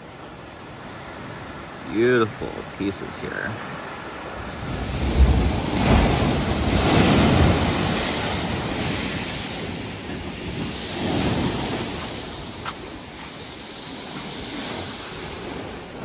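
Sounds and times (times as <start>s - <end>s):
surf washing over pebbles: 0.6s - 16.0s.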